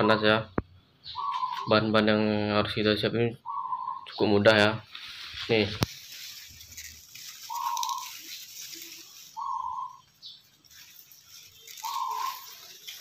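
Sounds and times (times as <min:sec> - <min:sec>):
bird calling: 0:00.0 - 0:01.9, 0:03.4 - 0:05.1, 0:06.0 - 0:13.0.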